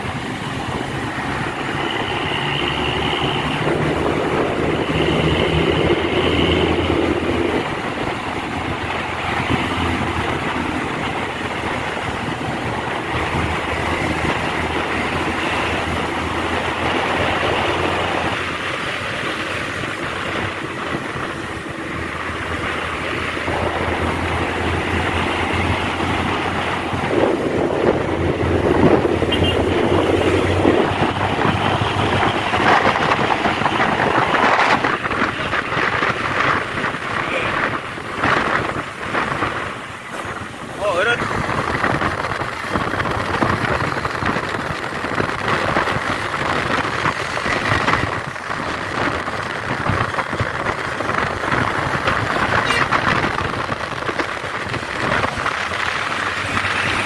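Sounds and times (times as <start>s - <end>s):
bus diesel engine: 0.0s - 57.0s
road and tyre noise: 0.0s - 57.0s.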